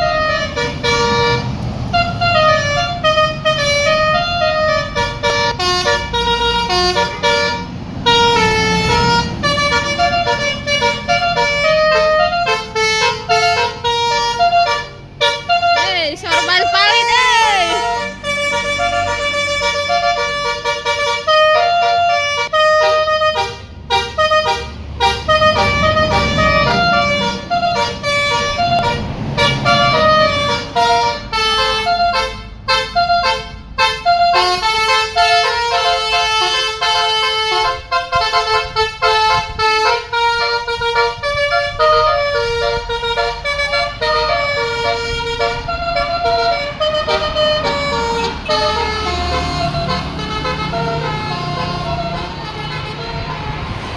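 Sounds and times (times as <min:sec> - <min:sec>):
engine running: 0:00.0 - 0:34.8, 0:39.4 - 0:53.9
multi-tone bus horn tune: 0:00.0 - 0:53.9.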